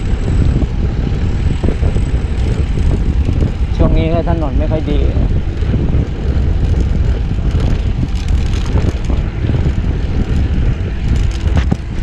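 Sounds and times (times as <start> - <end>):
bike tyre rumble on asphalt: 0.0 - 12.0
wind rushing over microphone: 0.0 - 12.0.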